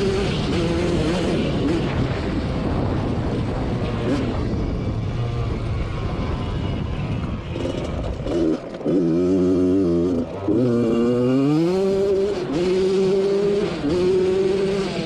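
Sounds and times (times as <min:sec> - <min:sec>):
two-stroke quad engine revving: 0:00.0 - 0:15.0.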